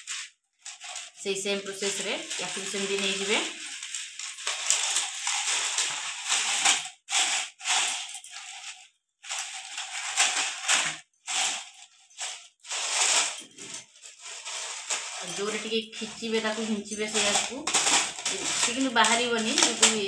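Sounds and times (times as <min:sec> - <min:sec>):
plastic strips crinkling and rattling: 0:00.0 - 0:20.0.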